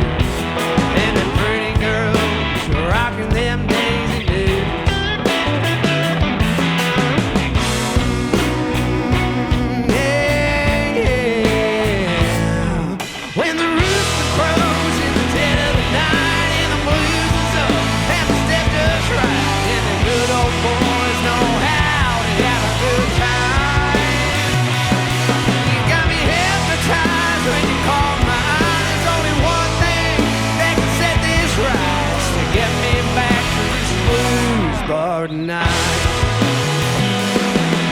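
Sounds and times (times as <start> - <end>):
bass guitar: 0.0 - 37.9
drums: 0.0 - 37.9
electric guitar: 0.0 - 37.9.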